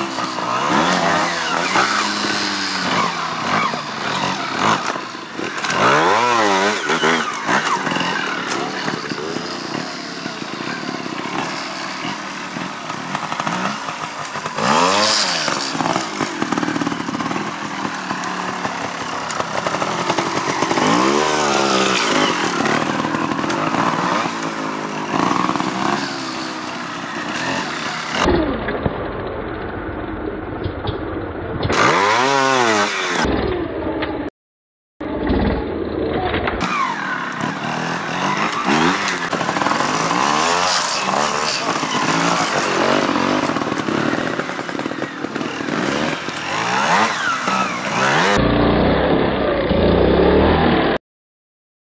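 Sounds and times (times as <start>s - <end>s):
motorcycle engines revving: 0.0s - 34.3s, 35.1s - 51.0s.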